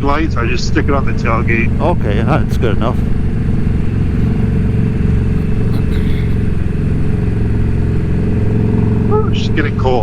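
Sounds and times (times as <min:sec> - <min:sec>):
motorcycle engine droning: 0:00.0 - 0:10.0.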